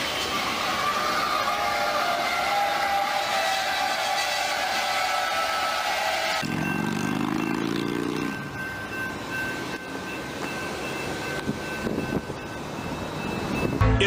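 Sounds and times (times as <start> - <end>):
high-pitched squeal: 0.0 - 13.8
train cars rumbling past: 0.0 - 13.9.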